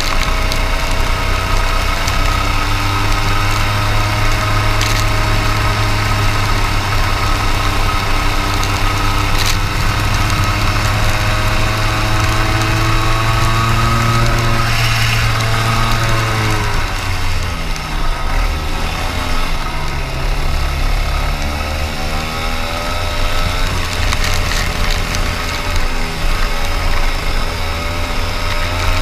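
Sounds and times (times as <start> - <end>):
kart engine revving: 0.0 - 29.0
steady low drone: 0.0 - 29.0.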